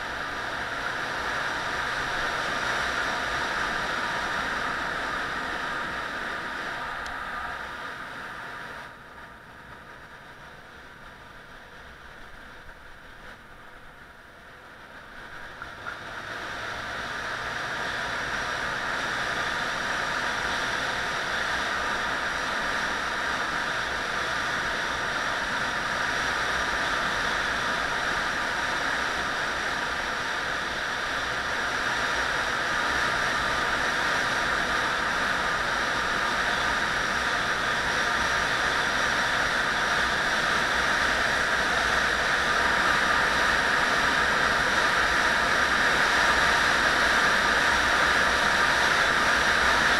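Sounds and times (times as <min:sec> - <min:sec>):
vehicle road noise: 0:00.0 - 0:49.9.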